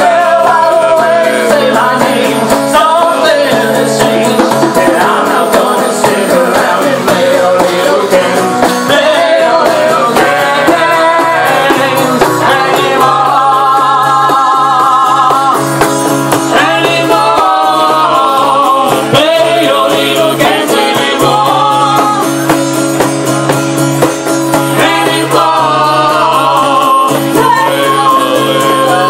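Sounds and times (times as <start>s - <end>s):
band music with guitars: 0.0s - 29.0s.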